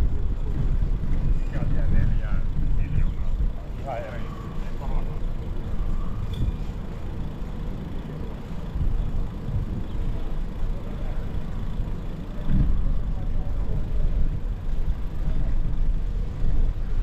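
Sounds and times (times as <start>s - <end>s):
low uneven city rumble: 0.0s - 17.0s.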